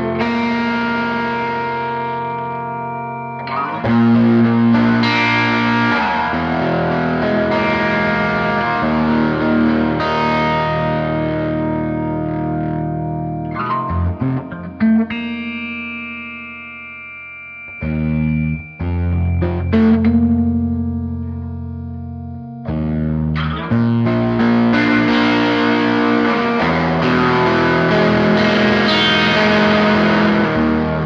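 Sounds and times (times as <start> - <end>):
distorted electric guitar chords: 0.0 - 31.0.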